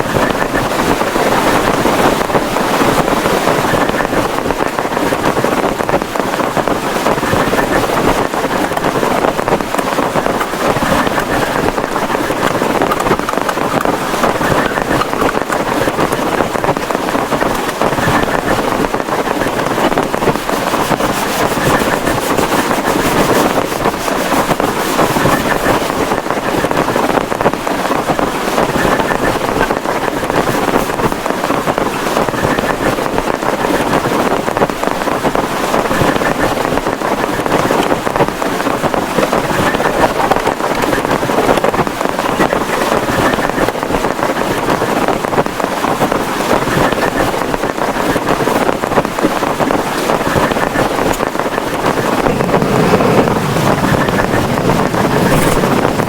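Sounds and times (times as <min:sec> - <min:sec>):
heavy rain pouring: 0:00.0 - 0:56.0
wind: 0:00.0 - 0:56.0.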